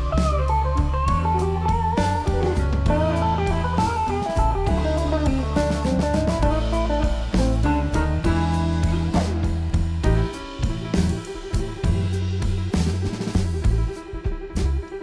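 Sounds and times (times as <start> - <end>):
lead guitar melody: 0.0 - 12.8
bass: 0.0 - 15.0
steady drum beat: 0.0 - 15.0.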